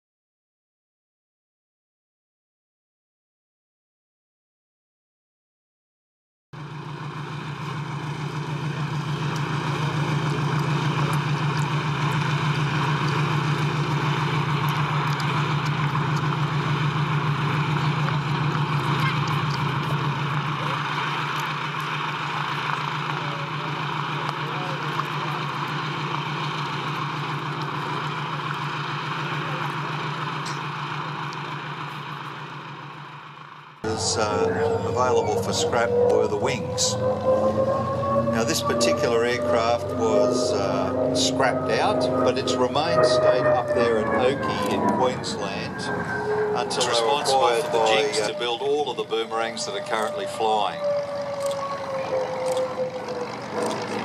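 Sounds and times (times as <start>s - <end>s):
piston aircraft engines running: 6.6s - 54.0s
propeller noise: 6.6s - 54.0s.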